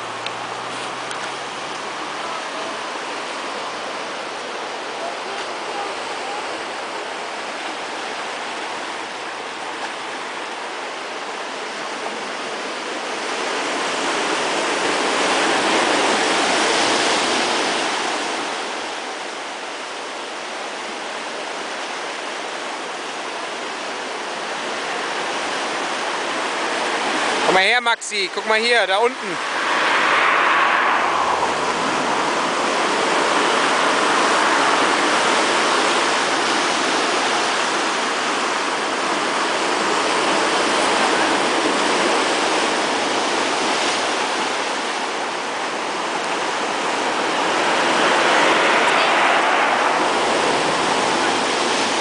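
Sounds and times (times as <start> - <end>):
surf washing over rocks: 0.0 - 52.0.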